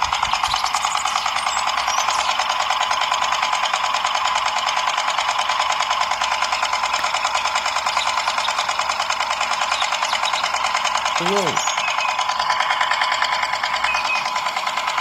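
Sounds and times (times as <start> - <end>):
motor whine: 0.0 - 15.0
toy gear motor buzzing rattle: 0.0 - 15.0.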